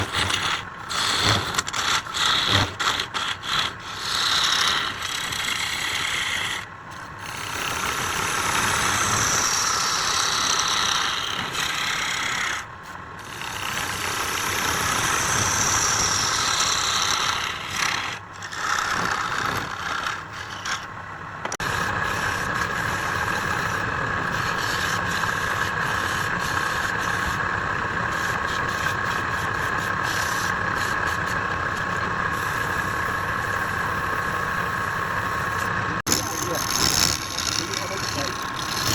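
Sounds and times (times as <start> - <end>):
wood lathe cutting wood: 0.0 - 38.9.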